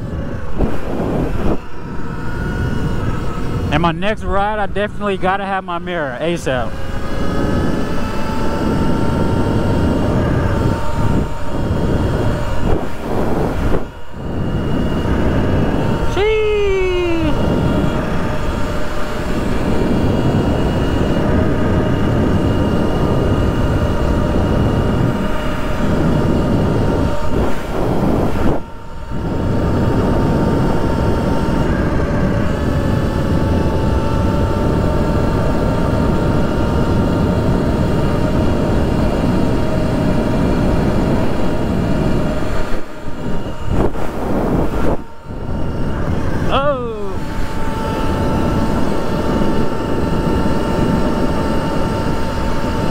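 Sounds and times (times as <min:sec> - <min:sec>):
electric motor whine: 0:00.0 - 0:52.9
wind rush on microphone: 0:00.0 - 0:52.9.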